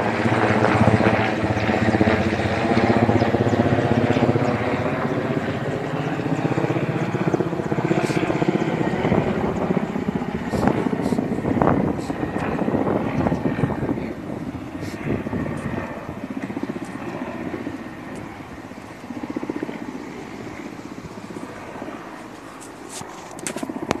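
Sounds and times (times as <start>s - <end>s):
helicopter rotor chop: 0.0s - 24.0s.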